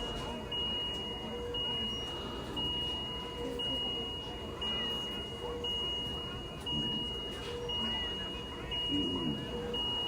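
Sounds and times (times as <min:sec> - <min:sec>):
electronic alarm beeping: 0:00.0 - 0:10.0.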